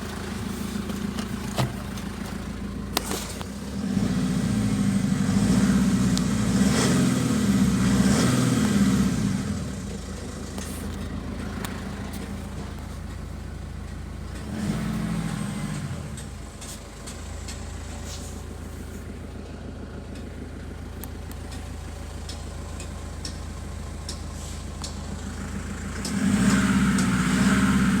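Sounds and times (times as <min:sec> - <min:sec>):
diesel engine revving and idling: 0:00.0 - 0:28.0.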